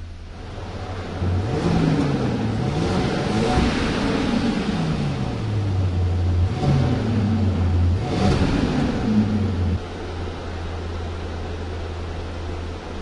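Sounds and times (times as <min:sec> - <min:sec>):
car engine revving then idling: 0:00.0 - 0:13.0.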